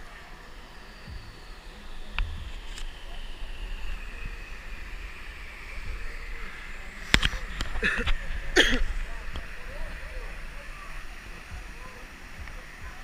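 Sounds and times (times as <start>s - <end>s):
waterfall running: 0.0s - 13.0s.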